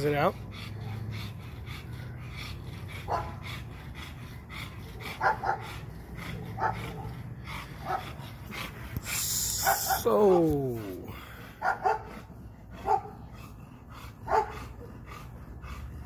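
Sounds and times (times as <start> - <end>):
dogs barking: 0.2 - 8.8, 9.4 - 10.4, 11.3 - 16.0.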